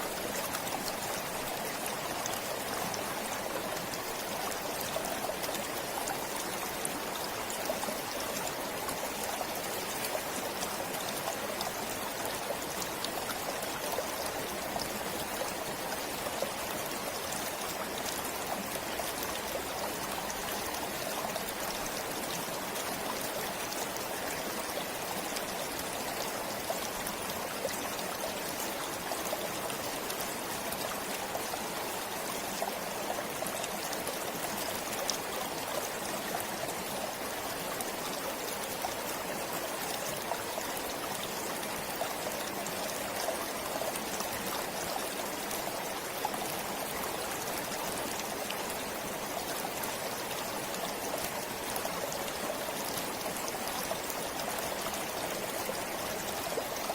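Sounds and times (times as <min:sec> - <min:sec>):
stream flowing over stones: 0:00.0 - 0:56.9.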